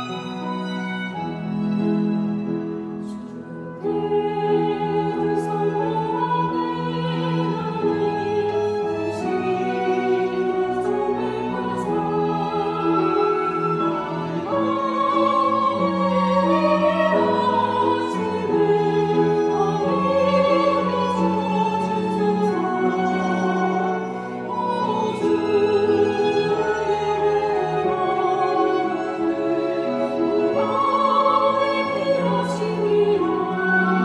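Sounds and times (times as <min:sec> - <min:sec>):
choir singing a hymn: 0:00.0 - 0:34.0
violins and cello: 0:00.0 - 0:34.0.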